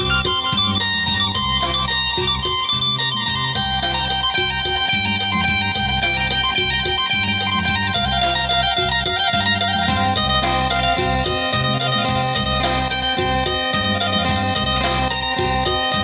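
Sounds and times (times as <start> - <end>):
bass line: 0.0 - 16.0
plucked lute melody: 0.0 - 16.0
steady beat: 0.0 - 16.0.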